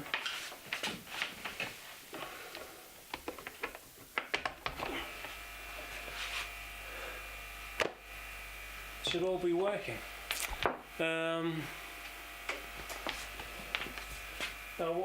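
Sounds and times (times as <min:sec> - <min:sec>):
air compressor buzzing: 0:02.1 - 0:15.0.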